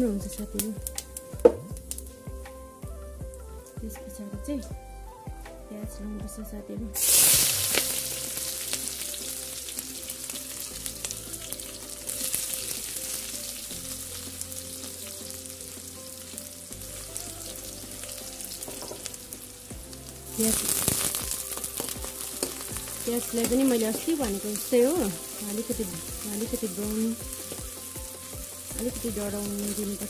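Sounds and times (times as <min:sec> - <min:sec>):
onions sizzling in hot oil: 0:00.0 - 0:02.2, 0:07.0 - 0:30.0.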